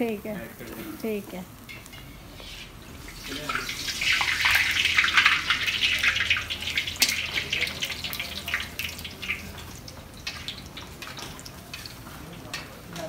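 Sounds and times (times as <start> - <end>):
deep-frying sizzle with crackles: 0.0 - 13.0.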